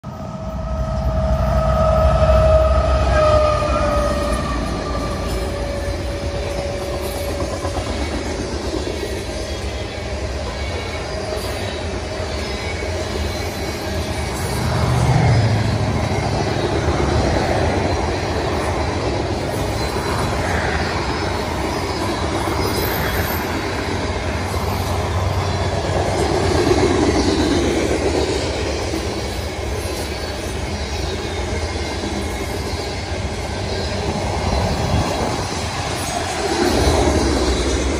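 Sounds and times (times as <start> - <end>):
diesel locomotives passing: 0.0 - 37.9
train wheels clattering on rails: 2.9 - 37.9.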